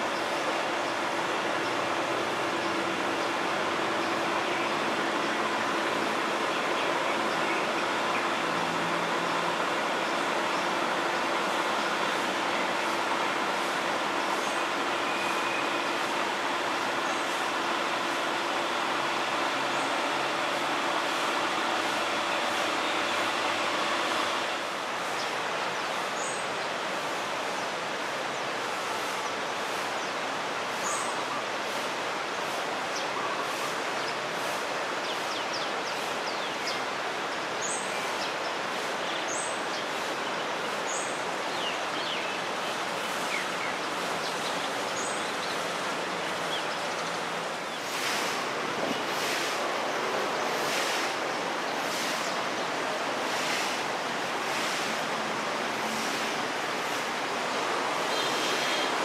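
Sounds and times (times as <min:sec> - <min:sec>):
outdoor ambient hiss: 0:00.0 - 0:59.0.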